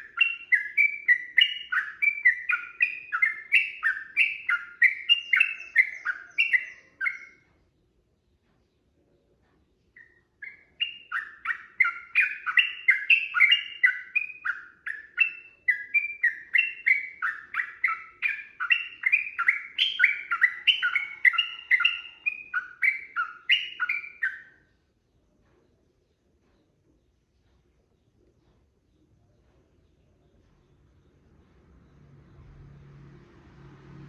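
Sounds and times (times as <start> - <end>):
bird chirping song: 0.0 - 34.0.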